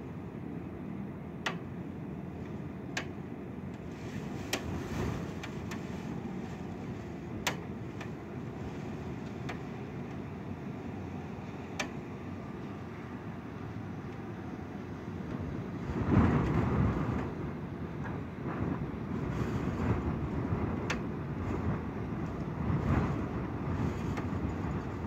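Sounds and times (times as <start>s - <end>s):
wind and rain rushing: 0.1s - 25.0s.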